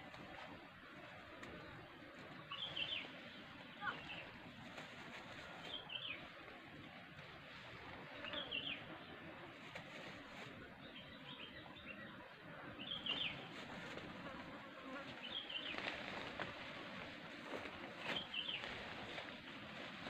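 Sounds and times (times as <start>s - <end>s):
faint outdoor hiss: 0.0s - 20.0s.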